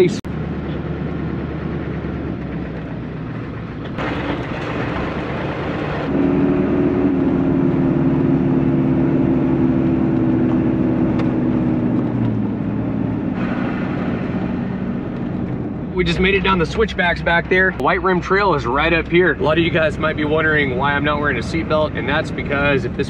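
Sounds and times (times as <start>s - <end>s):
diesel engine running: 0.0s - 23.0s
road and tyre rumble: 0.0s - 23.0s.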